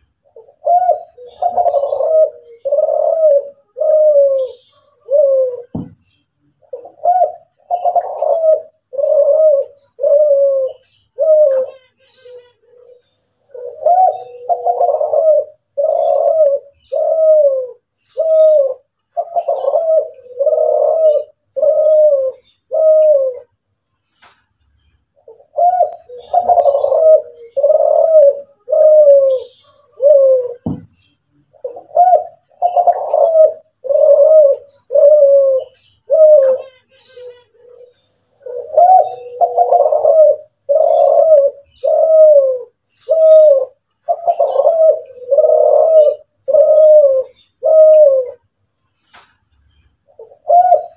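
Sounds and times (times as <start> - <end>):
dove cooing: 0.0 - 23.6, 25.2 - 48.5, 50.1 - 50.9
small birds chirping: 0.0 - 50.9.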